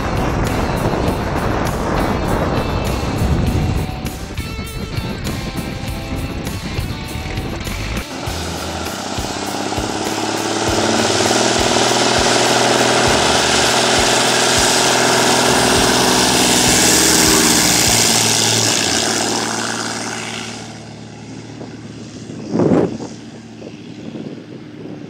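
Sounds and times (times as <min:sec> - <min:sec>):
small plane engine and propeller: 0:00.0 - 0:25.0.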